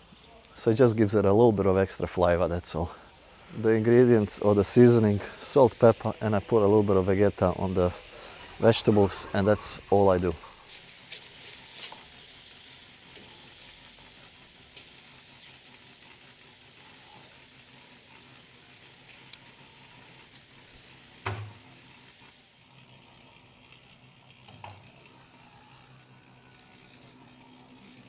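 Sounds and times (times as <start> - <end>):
meat sizzling in a pan: 1.1 - 28.0.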